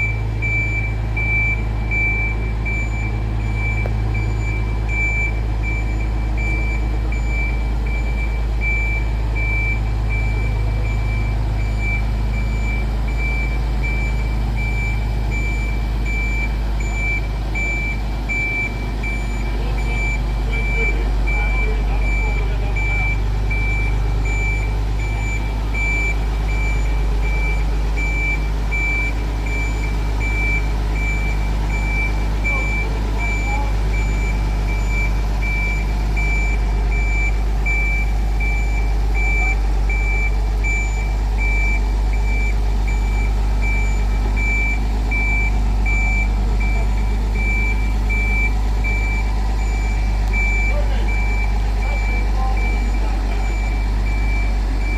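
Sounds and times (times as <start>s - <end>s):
low motor hum: 0.0s - 54.9s
reversing alarm beeping: 0.0s - 54.9s.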